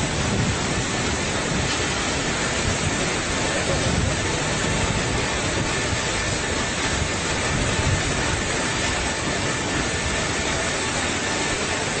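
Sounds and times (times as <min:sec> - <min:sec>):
airliner cabin roar: 0:00.0 - 0:12.0.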